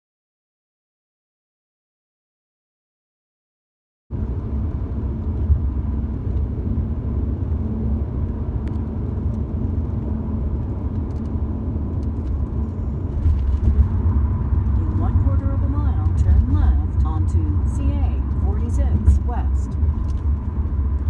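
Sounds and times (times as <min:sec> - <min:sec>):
car interior road and engine noise: 0:04.1 - 0:21.0.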